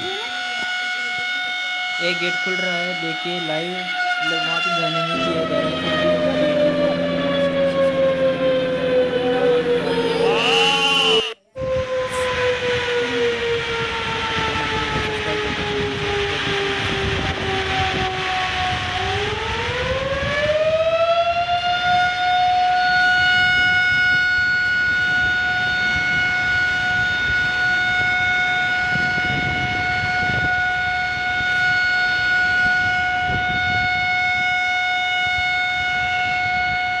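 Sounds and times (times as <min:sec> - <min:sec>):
warning siren: 0:00.0 - 0:37.0.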